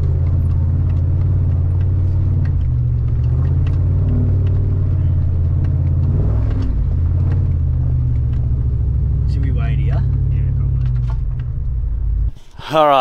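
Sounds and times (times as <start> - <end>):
faint rattles and knocks: 0.0 - 12.4
engine droning inside cabin: 0.0 - 12.8.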